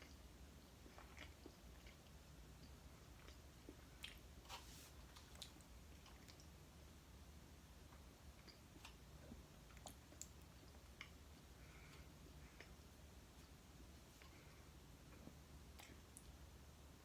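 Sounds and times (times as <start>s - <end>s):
person chewing food: 0.0s - 6.6s, 7.8s - 16.4s.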